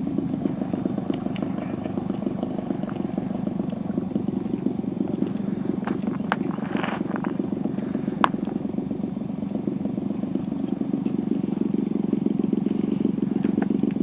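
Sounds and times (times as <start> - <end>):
model plane engine buzzing: 0.0 - 14.0.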